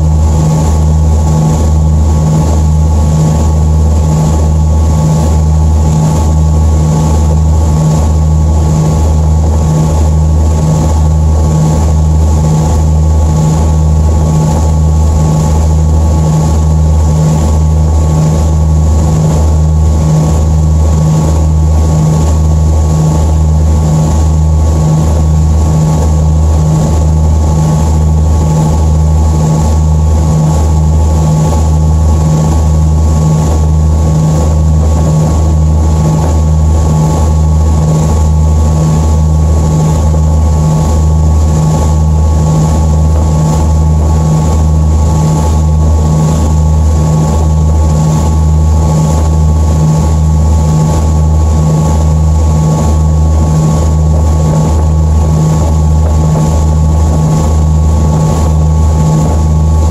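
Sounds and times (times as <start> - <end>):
churning wake rushing: 0.0 - 59.9.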